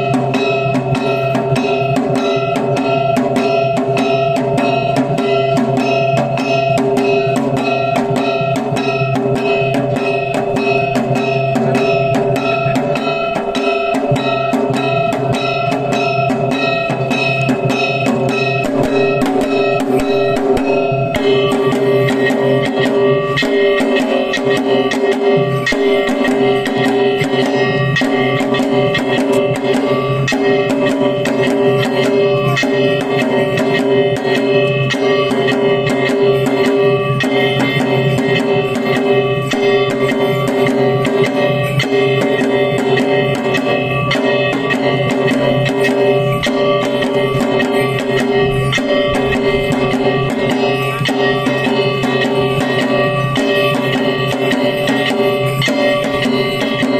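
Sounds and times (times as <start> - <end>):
drums beating steady rhythm: 0.0 - 56.9
sustained ringing tones: 0.0 - 56.9.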